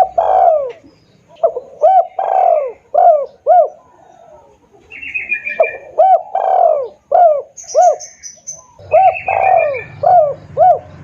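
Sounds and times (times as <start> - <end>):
bird twittering: 0.0 - 4.3, 4.9 - 11.0
dove cooing: 0.0 - 11.0.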